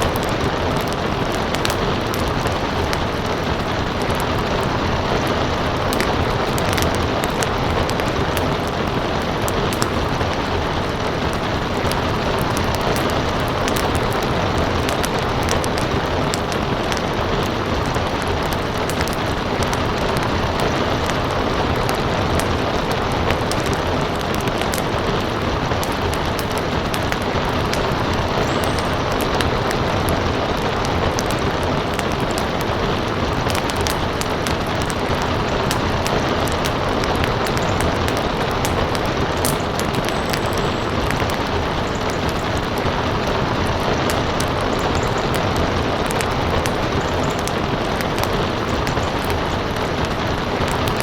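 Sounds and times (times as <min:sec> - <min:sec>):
heavy rain: 0:00.0 - 0:51.0
wood fire crackling: 0:00.0 - 0:51.0.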